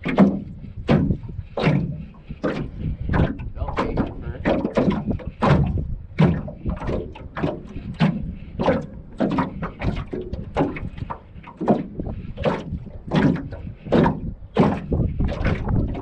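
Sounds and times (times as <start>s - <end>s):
waves slapping metal hull: 0.0s - 16.0s.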